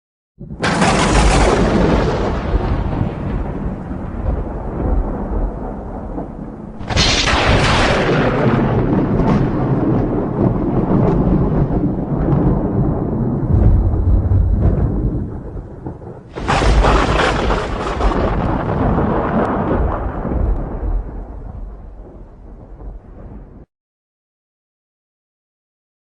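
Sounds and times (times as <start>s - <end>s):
close thunder crack: 0.4s - 23.7s
thunder rolling: 0.4s - 23.7s.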